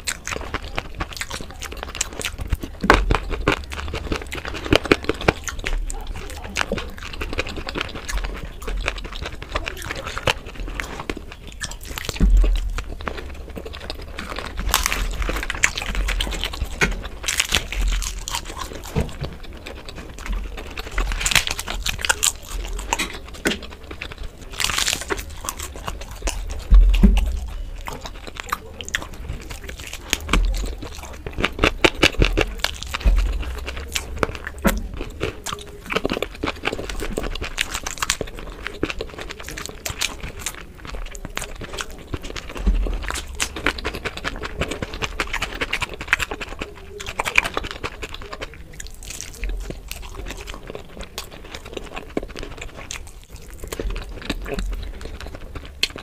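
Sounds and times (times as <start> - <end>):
crisp papad crunching: 0.0 - 56.0
wet chewing: 0.0 - 56.0.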